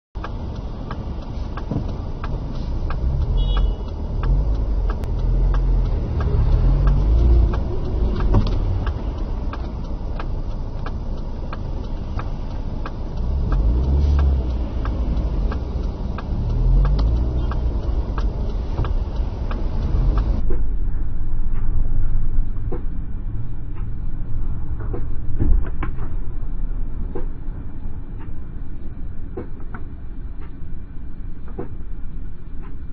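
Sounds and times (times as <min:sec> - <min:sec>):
steady ticking: 0:00.2 - 0:31.8
car engine: 0:00.2 - 0:32.9
tyres on wet road: 0:00.2 - 0:32.9.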